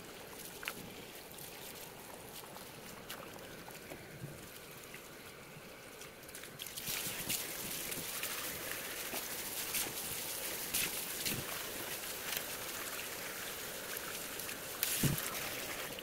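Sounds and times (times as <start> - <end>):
small water splashes: 0.0 - 16.0.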